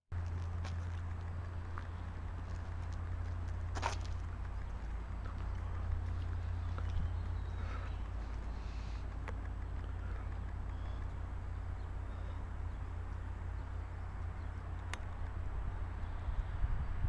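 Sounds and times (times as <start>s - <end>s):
low outdoor rumble: 0.1s - 17.0s.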